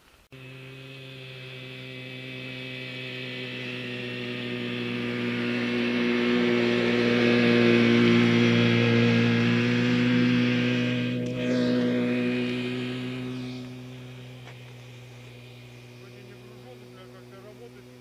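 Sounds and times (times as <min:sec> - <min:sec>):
snowmobile engine running: 0:00.0 - 0:18.0.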